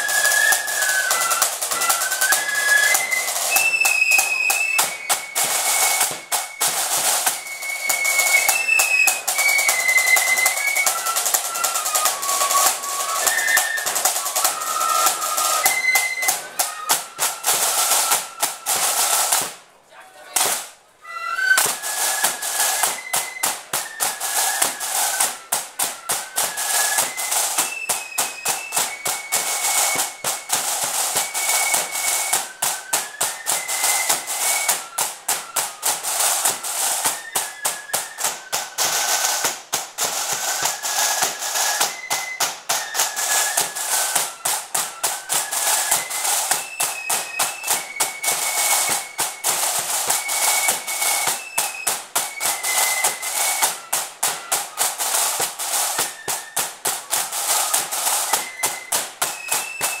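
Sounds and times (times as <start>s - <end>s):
flutes playing melody: 0.0s - 19.6s, 20.2s - 60.0s
rapid snare drumming: 0.0s - 19.7s, 20.3s - 60.0s.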